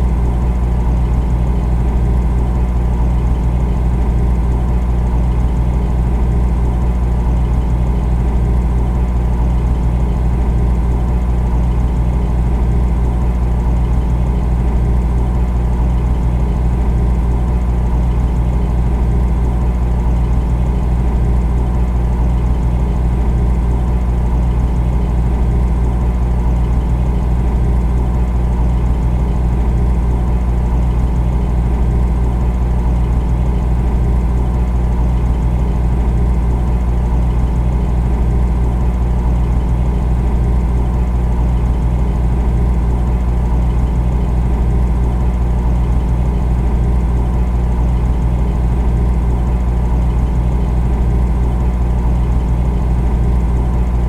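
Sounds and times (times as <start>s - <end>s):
refrigerator humming: 0.0s - 54.0s.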